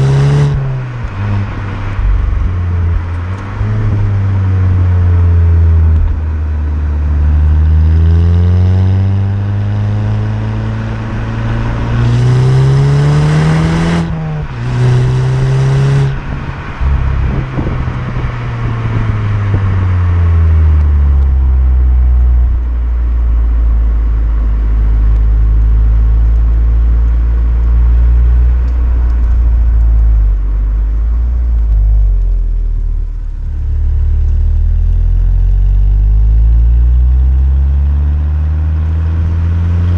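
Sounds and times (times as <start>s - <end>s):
turbocharged car engine revving: 0.0s - 39.9s.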